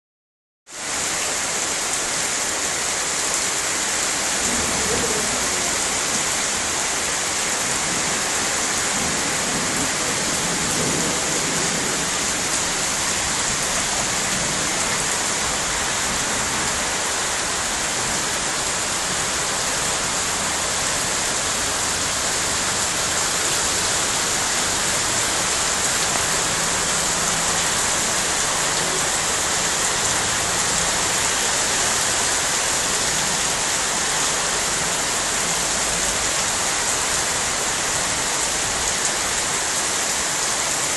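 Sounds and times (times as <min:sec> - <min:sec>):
heavy rain falling: 0:00.7 - 0:40.9.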